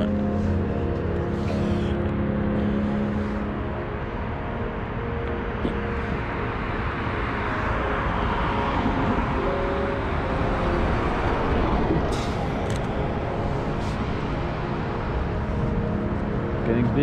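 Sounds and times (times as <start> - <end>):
low traffic rumble: 0.0 - 17.0
vehicle passing: 0.0 - 17.0.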